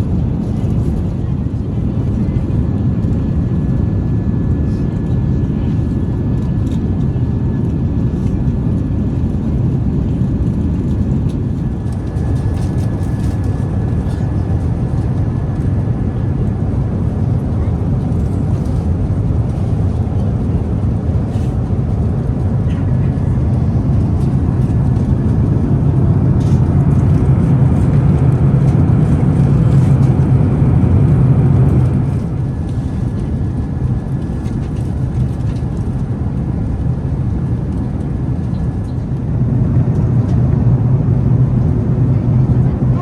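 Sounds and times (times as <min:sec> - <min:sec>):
airplane cabin roar: 0:00.0 - 0:43.0.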